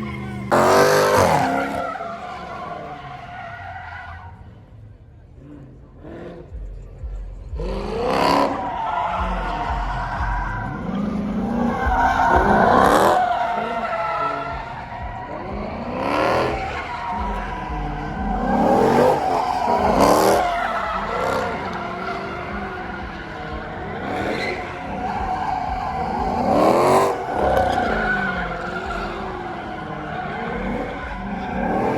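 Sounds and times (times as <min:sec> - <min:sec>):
tyres squealing: 0:00.0 - 0:04.5, 0:07.7 - 0:31.9
car engines revving: 0:00.0 - 0:31.9.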